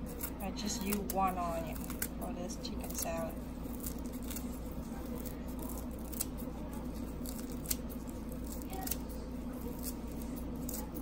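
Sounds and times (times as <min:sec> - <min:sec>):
scissors snipping leaves: 0:00.1 - 0:06.4, 0:07.2 - 0:11.0.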